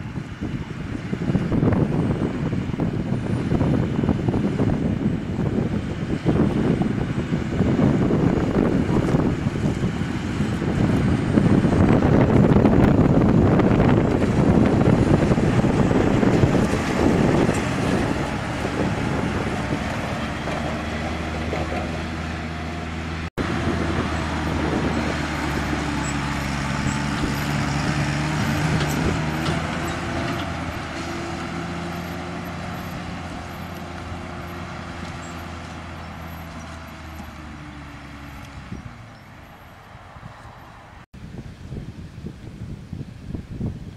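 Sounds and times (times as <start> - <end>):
heavy diesel machinery rumbling: 0.0 - 41.1.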